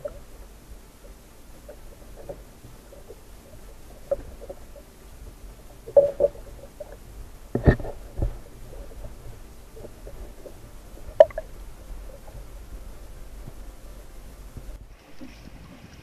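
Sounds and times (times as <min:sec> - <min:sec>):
muffled knocks and thumps: 0:00.0 - 0:15.9
low steady rumble: 0:00.0 - 0:16.0.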